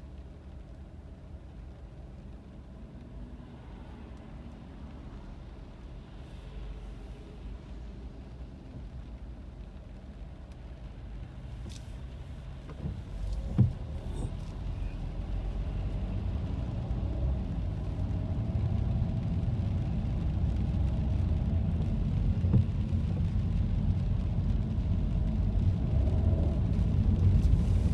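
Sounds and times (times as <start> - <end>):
car engine and tyre rumble: 0.0 - 27.9.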